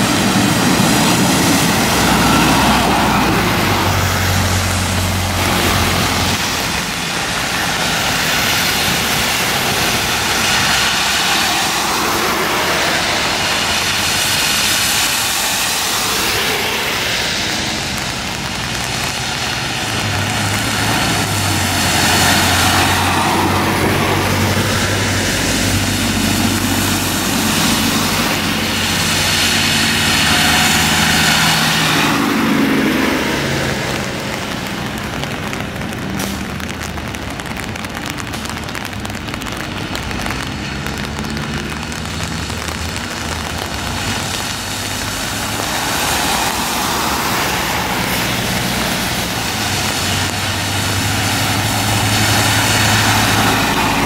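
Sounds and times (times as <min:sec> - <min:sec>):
bus engine drone: 0:00.0 - 0:54.0
tyres hissing on wet road: 0:00.0 - 0:54.0.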